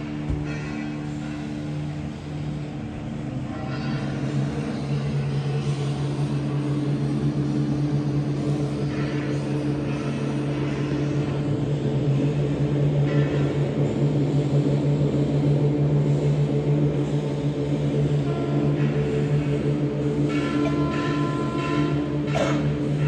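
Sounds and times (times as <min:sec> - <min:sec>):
constant low hum: 0:00.0 - 0:23.0
train wheels rumbling on rail: 0:00.0 - 0:23.0.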